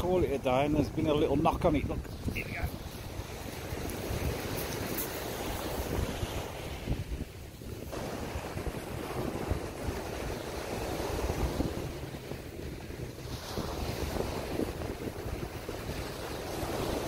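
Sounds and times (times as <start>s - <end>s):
waves washing onto beach: 0.0s - 17.0s
wind gusting on microphone: 0.0s - 17.0s.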